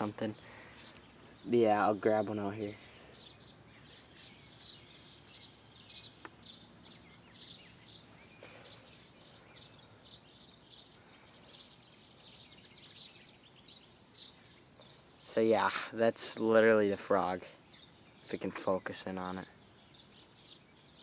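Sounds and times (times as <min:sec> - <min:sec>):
faint high-pitched chirping: 0:00.0 - 0:21.0.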